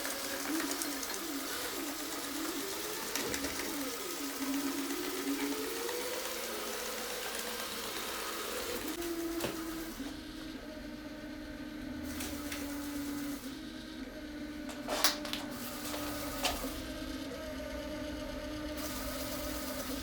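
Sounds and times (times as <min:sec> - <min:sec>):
robot vacuum motor hum: 0:00.0 - 0:20.0.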